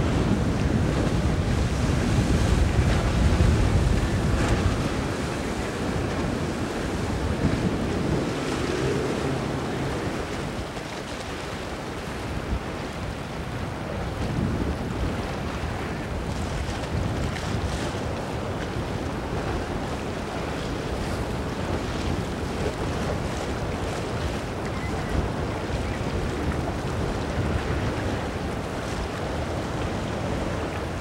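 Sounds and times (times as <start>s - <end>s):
choppy breaking water: 0.0s - 31.0s
outboard engine running: 0.0s - 31.0s
wind buffeting microphone: 0.0s - 31.0s.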